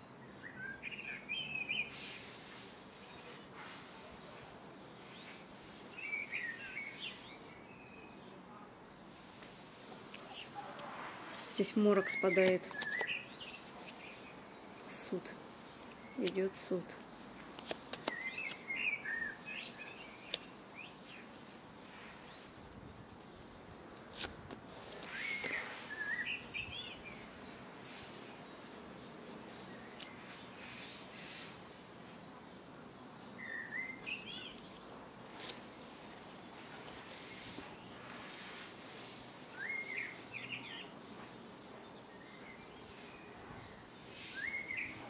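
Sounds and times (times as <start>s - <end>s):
songbird chirping: 0.0s - 45.0s
steady background hiss: 0.0s - 45.0s.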